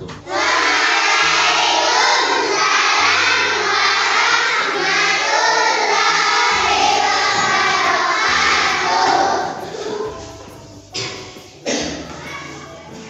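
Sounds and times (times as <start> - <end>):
backing music: 0.0 - 13.0
children singing in chorus: 0.2 - 13.0.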